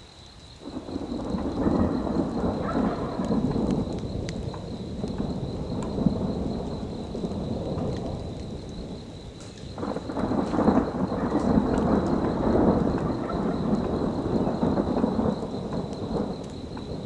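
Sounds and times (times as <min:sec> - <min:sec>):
steady rain: 0:00.0 - 0:17.0
thunder rumbling: 0:00.6 - 0:17.0.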